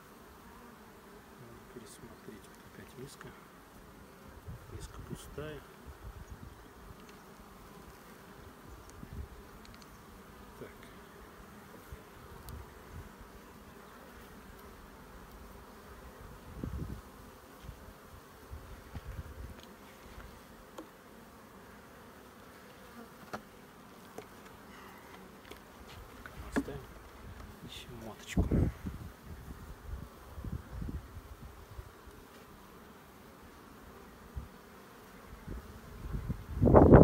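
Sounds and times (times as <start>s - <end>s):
bees humming: 0.0s - 37.0s.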